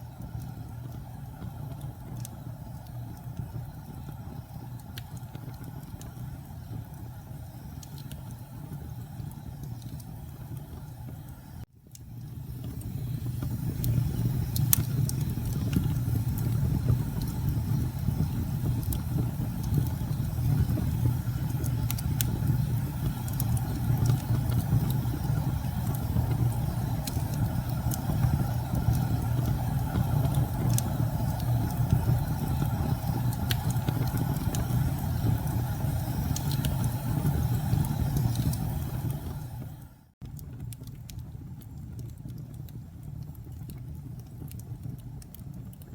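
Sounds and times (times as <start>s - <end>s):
burning wood crackling: 0.0s - 45.9s
campfire flames roaring: 0.0s - 45.9s.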